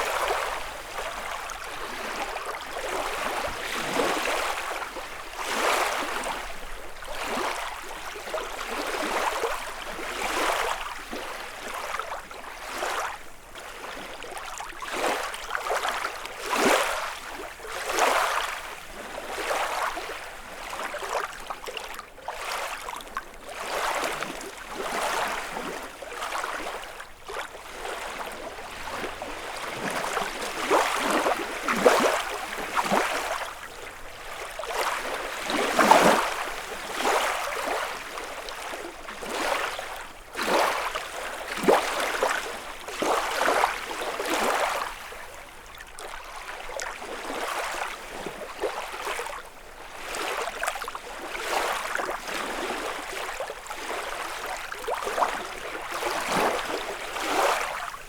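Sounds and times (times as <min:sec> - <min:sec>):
waves lapping against shore: 0:00.0 - 0:58.0.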